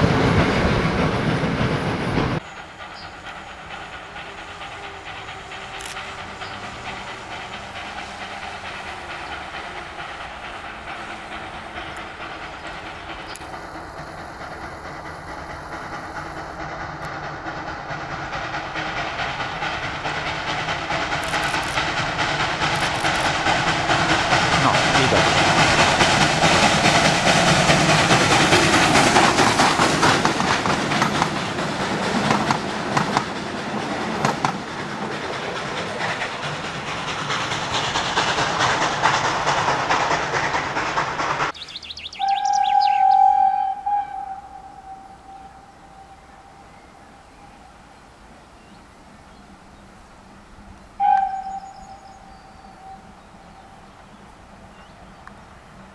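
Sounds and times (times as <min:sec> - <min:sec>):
steam hissing: 0:00.0 - 0:55.9
steam train passing: 0:00.0 - 0:55.9.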